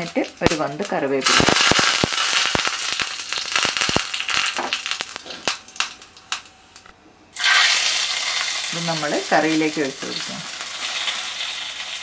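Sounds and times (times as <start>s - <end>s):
spices sizzling and popping in oil: 0.0s - 12.0s.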